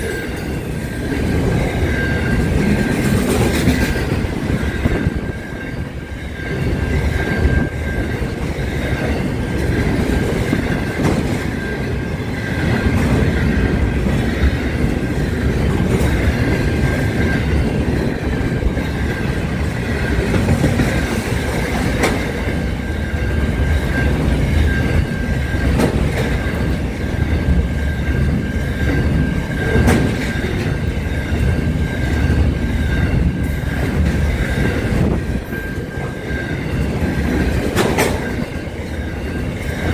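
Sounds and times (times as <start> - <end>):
freight train wheels rumbling: 0.0 - 39.9
wheels clacking on rails: 0.0 - 39.9.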